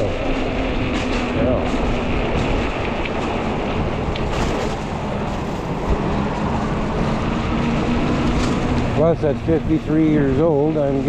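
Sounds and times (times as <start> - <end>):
rushing air and tyres on pavement: 0.0 - 11.0.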